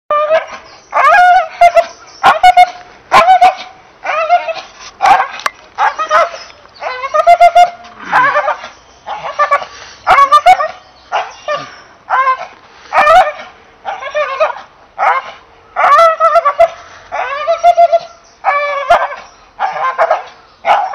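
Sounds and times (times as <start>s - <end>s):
dog barking excitedly: 0.1s - 20.9s.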